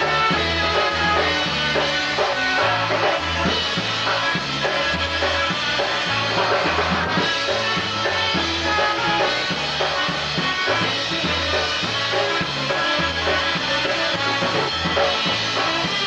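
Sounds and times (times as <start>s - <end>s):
bass and drum beat: 0.0s - 16.0s
polka band playing: 0.0s - 16.0s.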